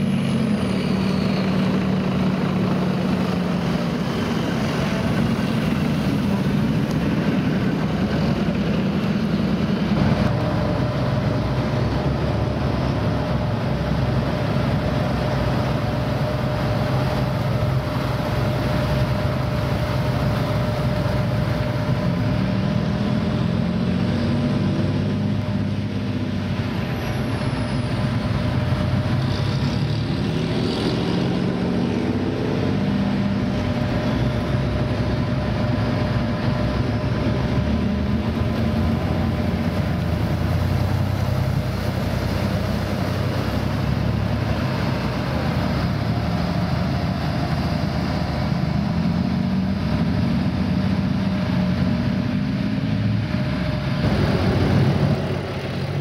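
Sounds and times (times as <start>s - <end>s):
heavy diesel engine running: 0.0s - 56.0s
steady whine: 0.0s - 56.0s.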